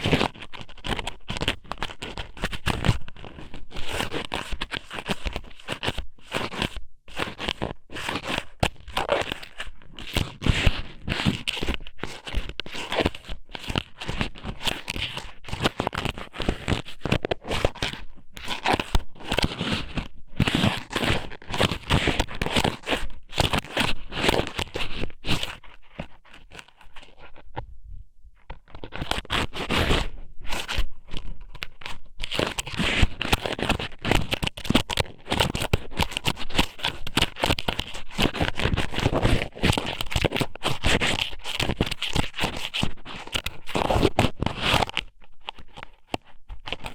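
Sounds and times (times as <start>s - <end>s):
crackling and scratching on microphone: 0.0s - 46.9s.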